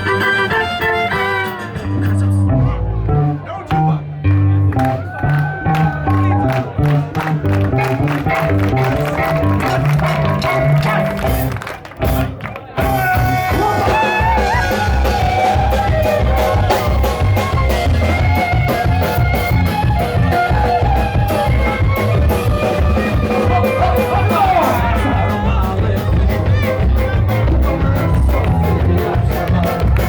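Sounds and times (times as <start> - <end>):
live band playing fast music: 0.0 - 30.0.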